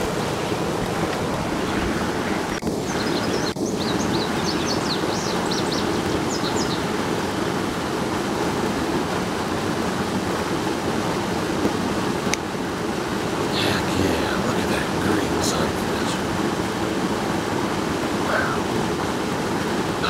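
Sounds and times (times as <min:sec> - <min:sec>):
water rushing through spillway: 0:00.0 - 0:20.0.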